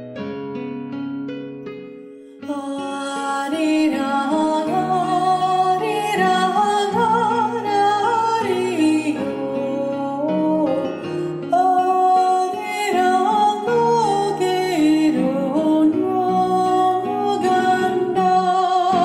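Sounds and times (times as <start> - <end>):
slow music with held notes: 0.0 - 19.0.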